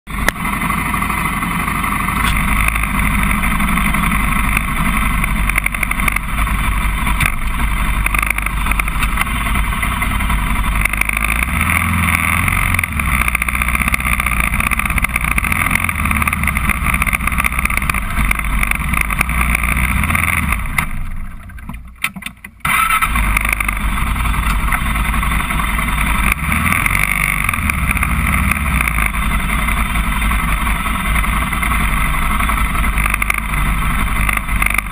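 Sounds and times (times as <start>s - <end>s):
quad engine running: 0.0s - 34.9s.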